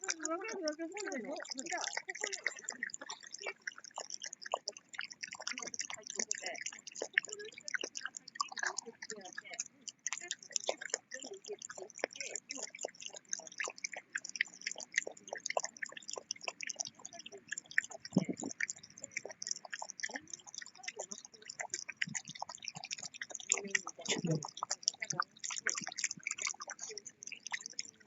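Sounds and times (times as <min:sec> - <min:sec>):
dog chewing on a ball: 0:00.0 - 0:28.0.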